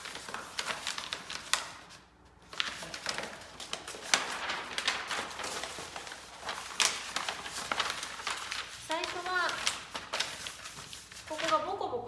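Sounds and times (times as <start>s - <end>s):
paper sheets rustling and crinkling: 0.0s - 12.0s.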